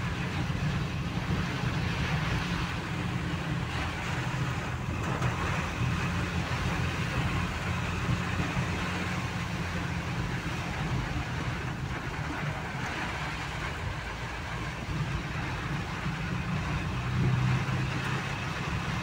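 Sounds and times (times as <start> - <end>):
heavy rain on windshield: 0.0 - 19.0
vehicle engine humming: 0.0 - 19.0.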